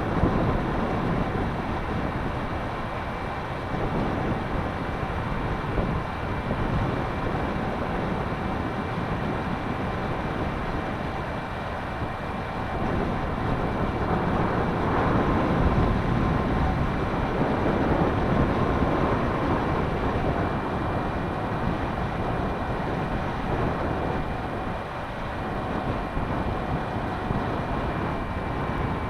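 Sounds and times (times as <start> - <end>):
faint steady whines: 0.0 - 29.0
wind buffeting microphone: 0.0 - 29.0.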